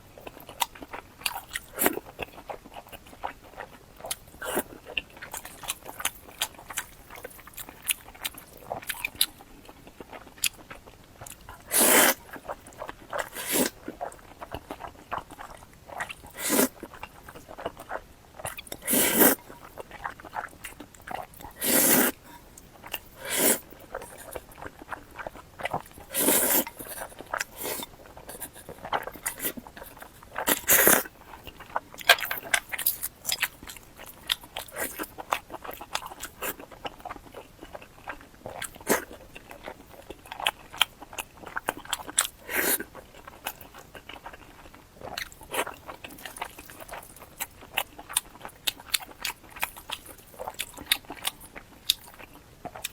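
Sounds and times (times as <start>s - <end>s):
person chewing food: 0.1s - 52.9s.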